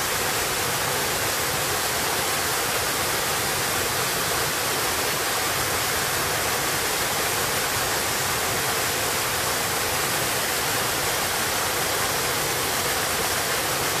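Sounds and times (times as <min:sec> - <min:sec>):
waterfall rushing over boulders: 0:00.0 - 0:14.0.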